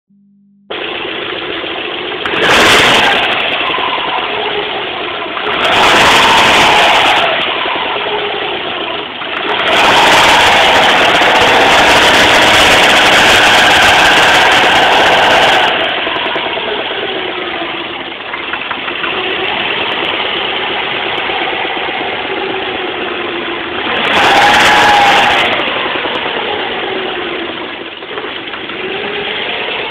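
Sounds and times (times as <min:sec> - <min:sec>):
car engine revving: 0:00.7 - 0:29.9.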